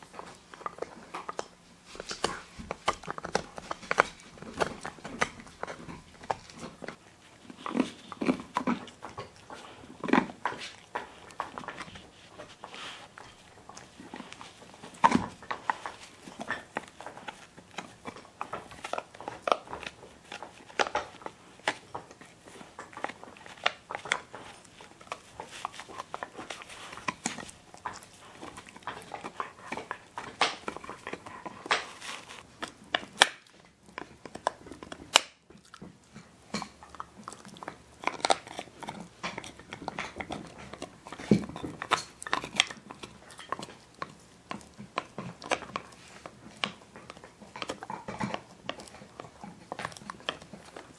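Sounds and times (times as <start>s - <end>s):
dogs gnawing antler chews: 0.0s - 50.9s.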